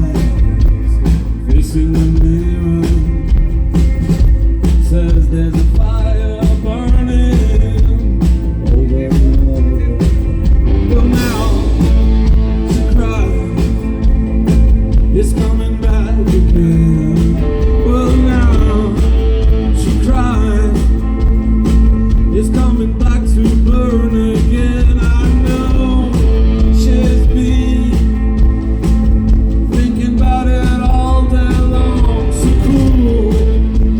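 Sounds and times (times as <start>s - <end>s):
person singing: 0.0s - 3.4s, 4.9s - 14.4s, 15.0s - 21.3s, 22.1s - 28.4s, 29.7s - 33.9s
rock band playing: 0.0s - 33.9s.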